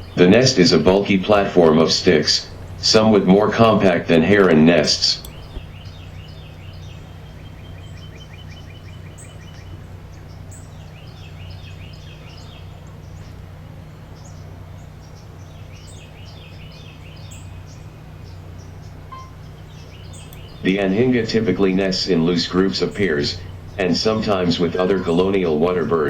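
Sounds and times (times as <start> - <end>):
rapid bird trill: 0.0 - 13.5, 14.1 - 26.0
birds chirping and calling: 0.0 - 26.0
steady low hum: 0.0 - 26.0.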